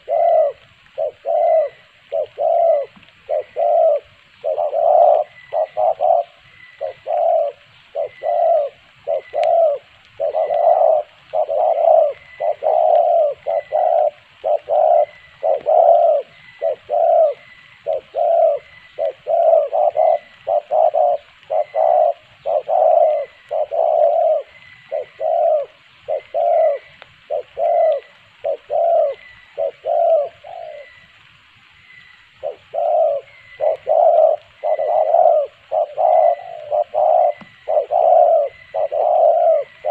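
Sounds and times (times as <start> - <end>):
dove cooing: 0.0 - 31.2, 32.4 - 39.9.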